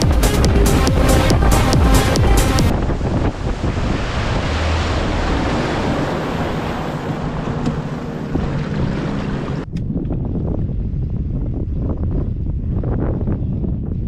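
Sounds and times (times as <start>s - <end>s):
gusty wind buffeting microphone: 0.0s - 14.0s
outboard motor and hull noise: 0.0s - 14.0s
wind rushing on microphone: 0.0s - 14.0s.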